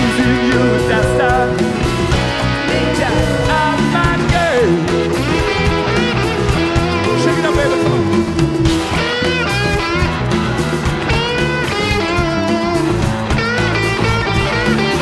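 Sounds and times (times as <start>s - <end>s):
live rock band playing: 0.0s - 15.0s
electric guitar solo: 0.1s - 15.0s.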